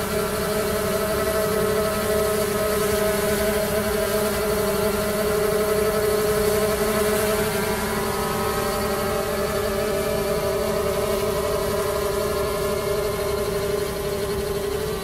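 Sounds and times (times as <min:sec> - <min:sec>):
drone propeller buzz: 0:00.0 - 0:15.0.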